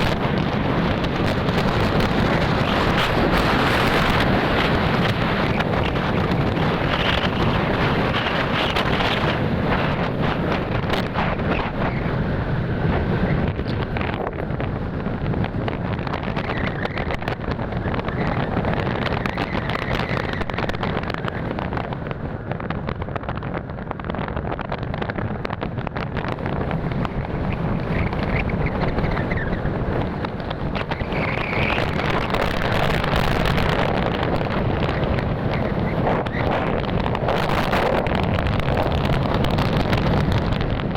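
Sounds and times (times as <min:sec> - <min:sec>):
road noise: 0:00.0 - 0:40.9
wind buffeting microphone: 0:00.0 - 0:40.9.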